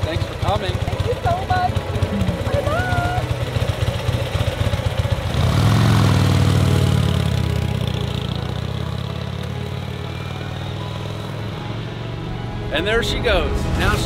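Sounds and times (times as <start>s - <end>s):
motorcycle engine idling and pulling away: 0.0s - 12.5s.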